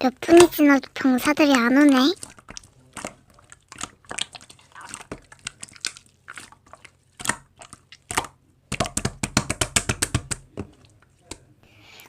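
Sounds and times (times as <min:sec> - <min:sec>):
slime squished with sticky pops: 0:00.2 - 0:11.5.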